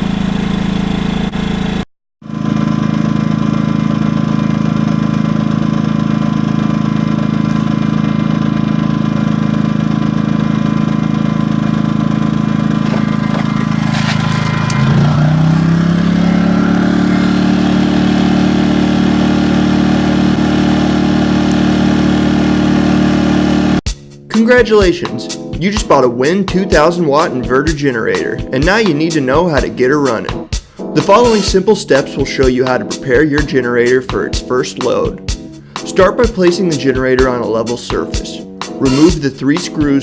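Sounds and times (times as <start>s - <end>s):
generator engine running: 0.0s - 29.9s, 35.2s - 40.0s.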